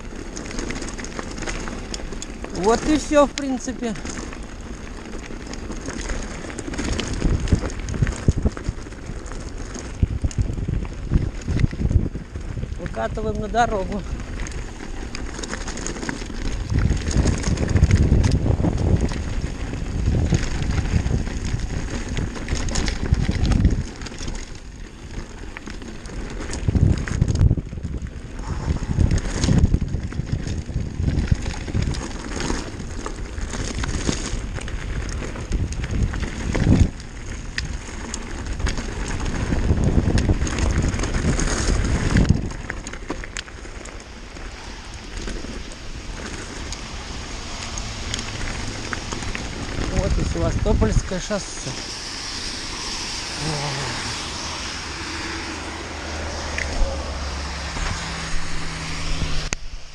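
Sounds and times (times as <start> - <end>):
bike rattles: 0.0 - 59.9
bike tyre noise: 0.0 - 59.9
wind buffeting microphone: 0.0 - 59.9.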